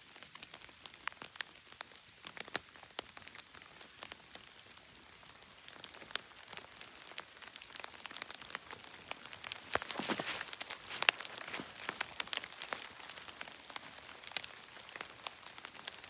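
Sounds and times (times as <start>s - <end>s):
raindrops ticking on surfaces: 0.0s - 16.0s
steady rain: 0.0s - 16.0s.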